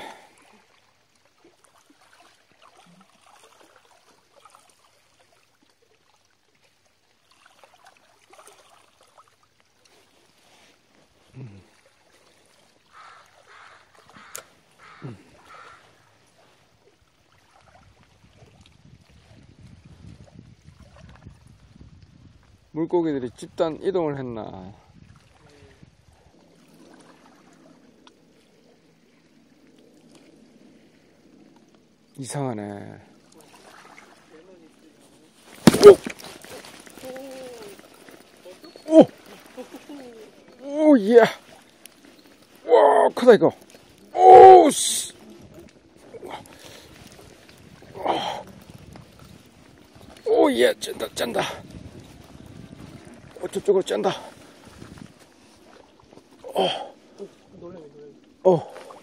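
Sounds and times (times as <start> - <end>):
water lapping against rocks: 0.0 - 22.7, 24.8 - 32.0, 33.1 - 59.0.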